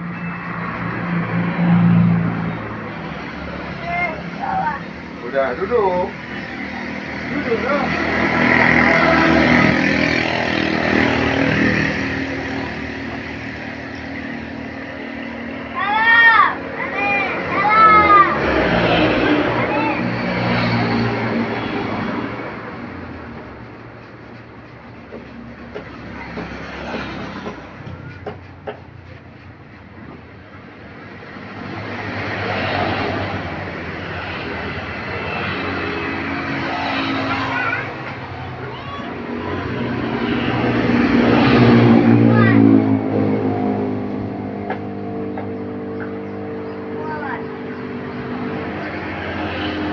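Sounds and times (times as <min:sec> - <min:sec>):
heavy vehicle passing: 0:00.0 - 0:49.9.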